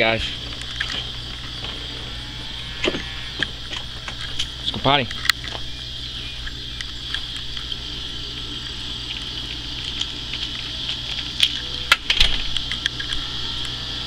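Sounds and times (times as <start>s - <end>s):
insects chirping: 0.0s - 14.0s
low steady hum: 0.0s - 14.0s.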